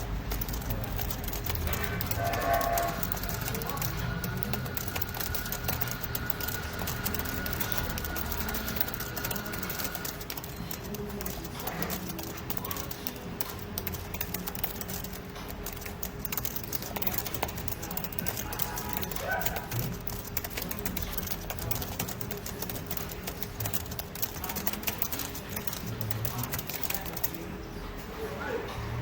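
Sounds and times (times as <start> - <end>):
mechanical keyboard key clacks: 0.0 - 27.4.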